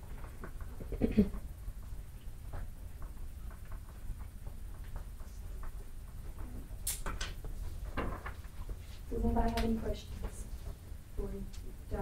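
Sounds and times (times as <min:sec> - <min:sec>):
students writing and shifting: 0:00.0 - 0:12.0.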